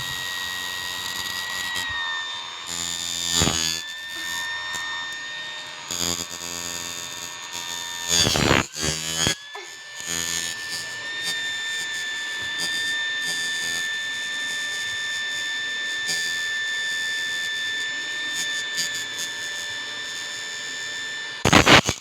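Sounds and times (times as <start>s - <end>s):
electric fan whining: 0.0s - 21.8s.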